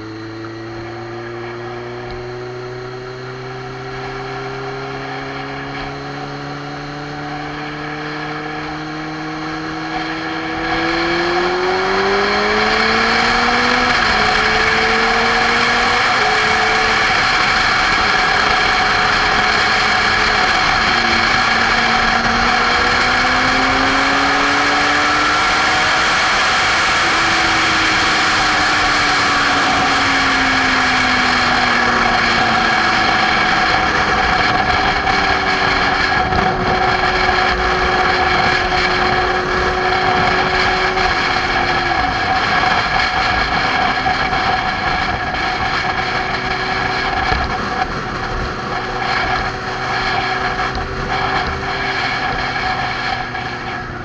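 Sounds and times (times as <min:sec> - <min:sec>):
motorcycle engine accelerating: 0:00.0 - 0:54.0
wind rushing on microphone: 0:02.2 - 0:54.0.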